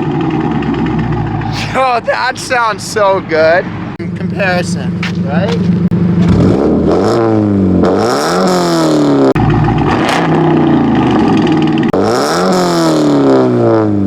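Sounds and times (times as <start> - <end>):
car engine revving: 0.5 - 14.0.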